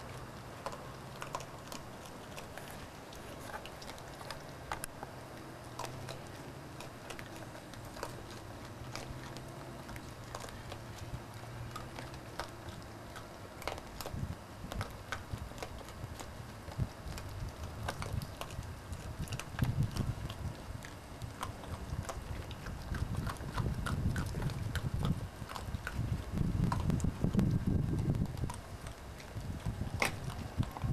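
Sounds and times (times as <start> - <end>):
animals crunching seed: 0.0 - 30.9.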